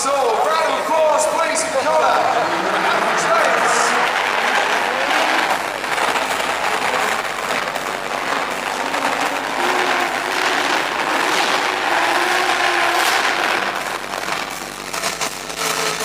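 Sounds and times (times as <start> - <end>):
car engines revving: 0.0 - 16.0
tyre noise: 0.0 - 16.0.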